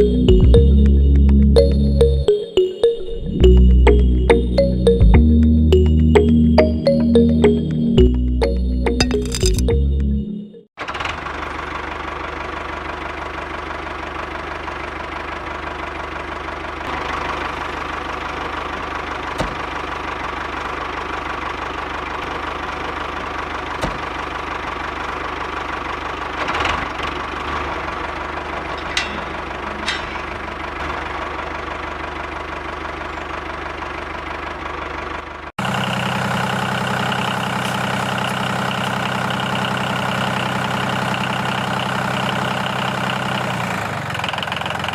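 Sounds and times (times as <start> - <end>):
engine running: 0.0 - 2.4, 3.2 - 44.9.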